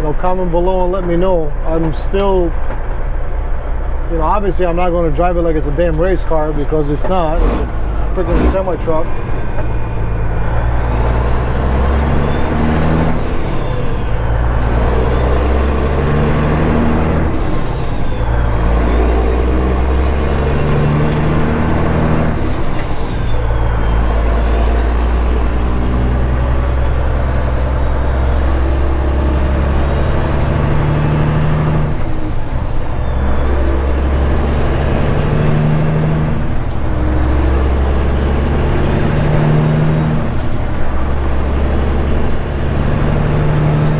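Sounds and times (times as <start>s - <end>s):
diesel truck engine shifting gears: 0.0s - 43.9s.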